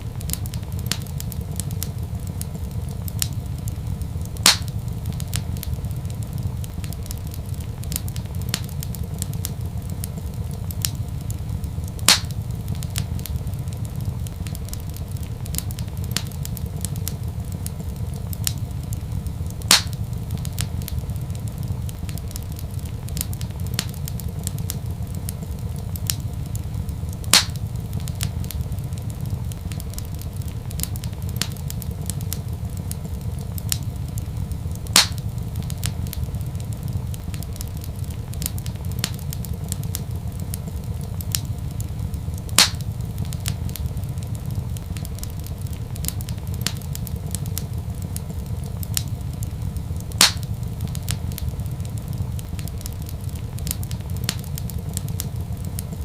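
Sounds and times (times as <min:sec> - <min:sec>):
sharp pops from fire: 0:00.0 - 0:56.0
wood fire crackling: 0:00.0 - 0:56.0.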